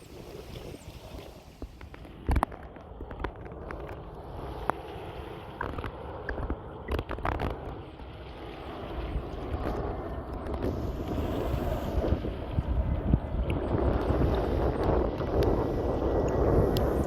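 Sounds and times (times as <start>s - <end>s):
jet airliner engine rumble: 0.0s - 17.0s
wind buffeting microphone: 0.0s - 17.0s.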